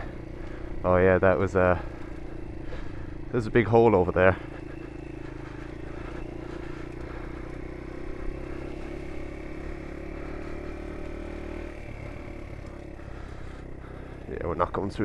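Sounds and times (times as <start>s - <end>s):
small motorbike engine running: 0.0s - 15.0s.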